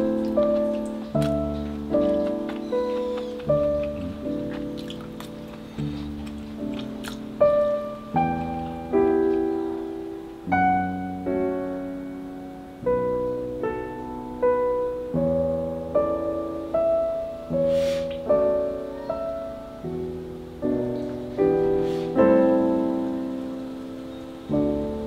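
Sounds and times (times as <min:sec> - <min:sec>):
slow solo piano: 0:00.0 - 0:25.0.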